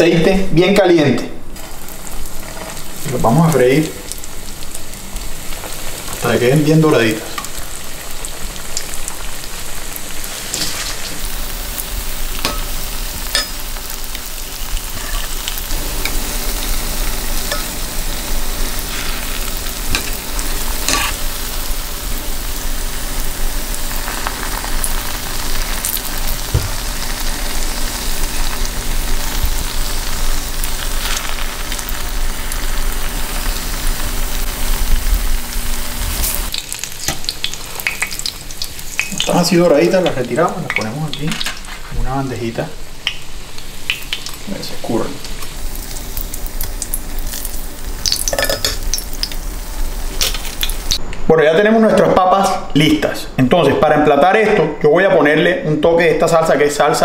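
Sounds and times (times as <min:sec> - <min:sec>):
food sizzling in hot oil: 0:01.5 - 0:51.0.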